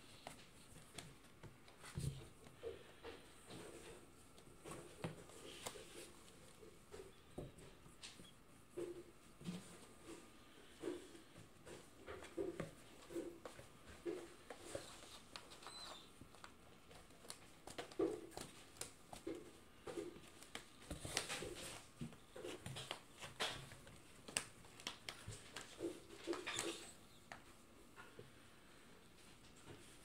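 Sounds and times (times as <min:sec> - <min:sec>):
cats scratching cardboard: 0:00.0 - 0:28.4.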